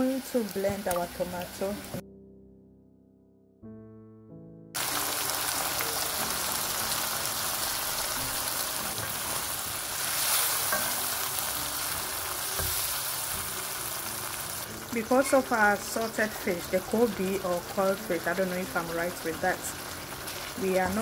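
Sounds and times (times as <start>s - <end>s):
tomato sizzling in hot oil: 0.0s - 2.0s, 4.8s - 21.0s.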